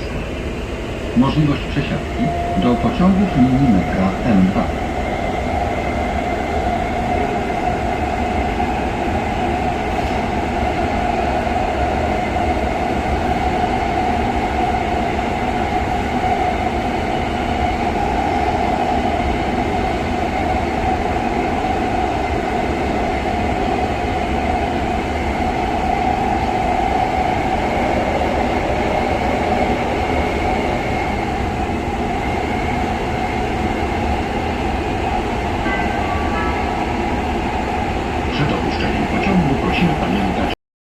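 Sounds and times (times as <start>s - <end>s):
metro train rumble: 0.0s - 40.6s
train whine: 0.0s - 40.6s.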